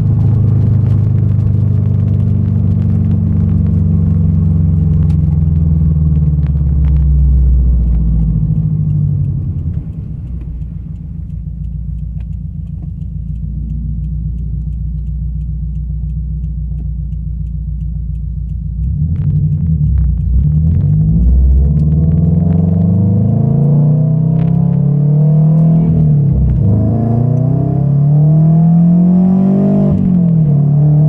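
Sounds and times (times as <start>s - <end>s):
car engine drone: 0.0s - 31.0s
light regular ticking: 0.0s - 31.0s.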